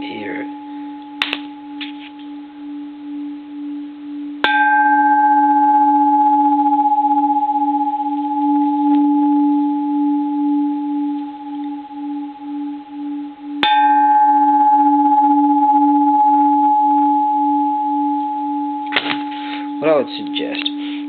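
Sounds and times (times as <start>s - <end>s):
temple bell ringing: 0.0s - 2.8s, 4.4s - 12.6s, 13.6s - 21.0s.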